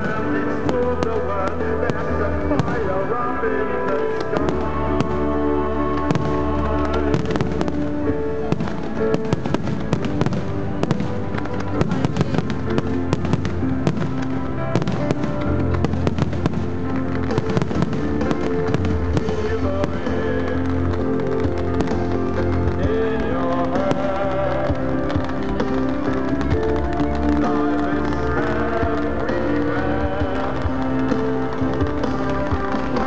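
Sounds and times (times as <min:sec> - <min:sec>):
fireworks bangs and crackles: 0:00.0 - 0:33.0
music with long held notes: 0:00.0 - 0:33.0.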